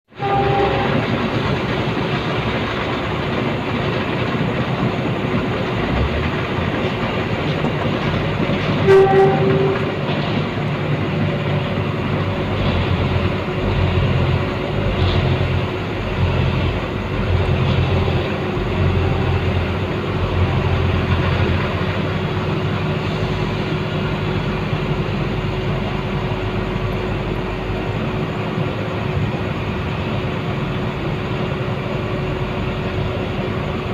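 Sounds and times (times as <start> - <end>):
loud rumble: 0.0 - 33.9.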